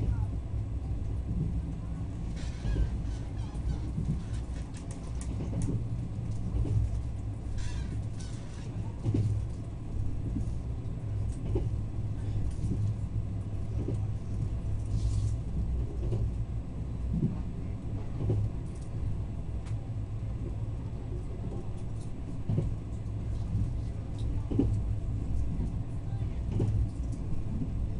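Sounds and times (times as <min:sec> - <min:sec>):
train rumble: 0:00.0 - 0:27.9.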